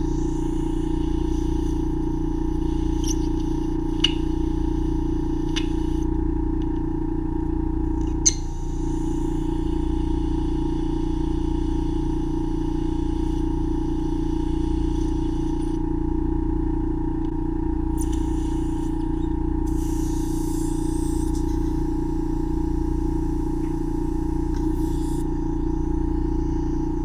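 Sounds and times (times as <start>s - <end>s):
suction machine humming: 0.0s - 16.9s, 17.5s - 27.0s.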